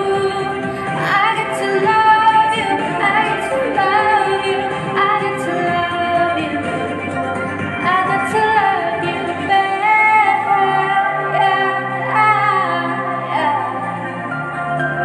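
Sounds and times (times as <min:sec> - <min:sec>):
woman singing: 0:00.0 - 0:07.1, 0:07.7 - 0:14.1
pop music playing: 0:00.0 - 0:15.0.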